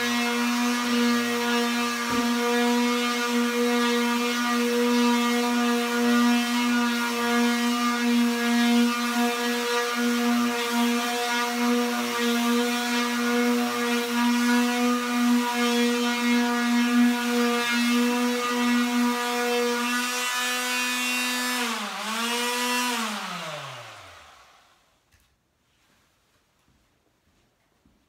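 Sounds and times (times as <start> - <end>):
electric sander humming: 0.0 - 24.8.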